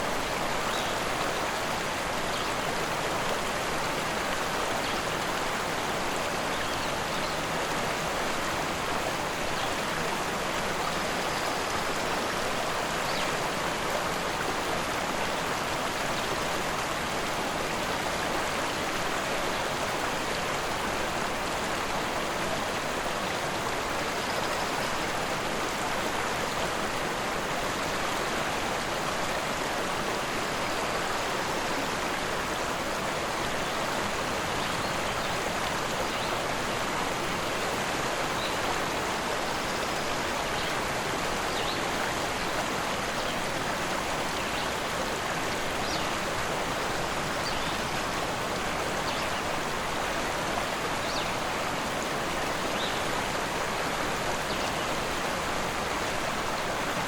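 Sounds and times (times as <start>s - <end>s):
forest river rushing: 0.0s - 57.0s.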